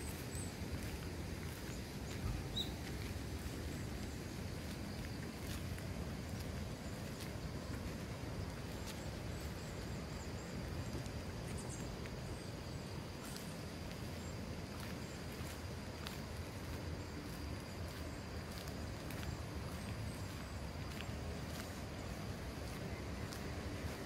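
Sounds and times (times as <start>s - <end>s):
footsteps on asphalt: 0.0s - 24.0s.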